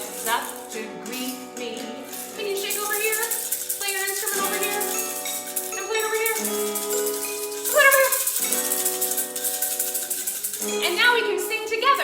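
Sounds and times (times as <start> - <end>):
children's song instrumental: 0.0 - 12.0
shaker rattle: 0.0 - 12.0.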